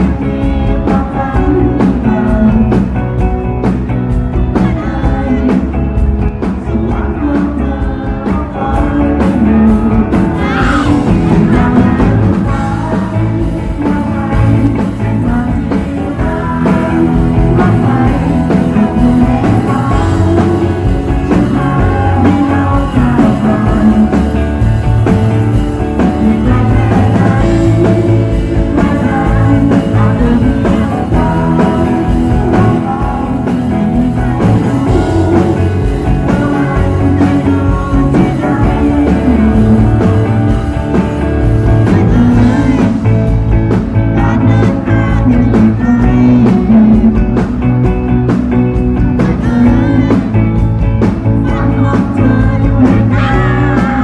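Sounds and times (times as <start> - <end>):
electric guitars: 0.0 - 54.0
person singing: 0.0 - 54.0
steady drum beat: 7.8 - 54.0.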